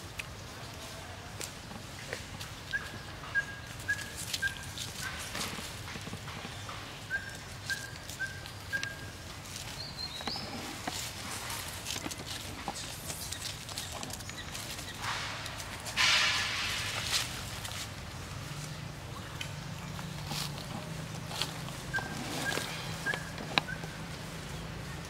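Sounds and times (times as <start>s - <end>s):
footsteps in dry leaves and sand: 0.0s - 25.0s.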